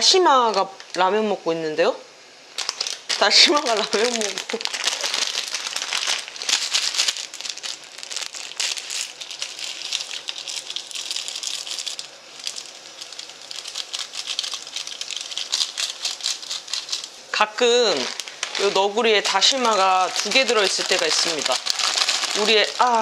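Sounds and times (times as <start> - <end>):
plastic packets crinkling: 2.5 - 23.0.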